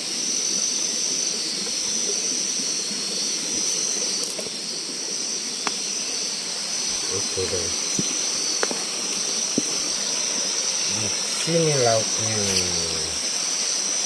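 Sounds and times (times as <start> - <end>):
night insects buzzing: 0.0 - 14.0
even hiss: 0.1 - 14.0.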